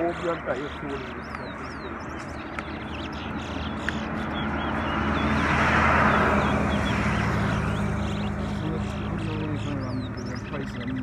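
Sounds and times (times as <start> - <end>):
small bird chirping: 0.0 - 11.0
vehicle passing by: 0.0 - 11.0
low engine hum: 0.2 - 11.0.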